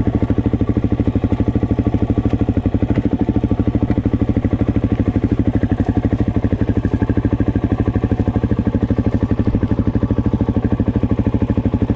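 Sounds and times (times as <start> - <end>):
dirt bike engine idling: 0.0 - 11.9.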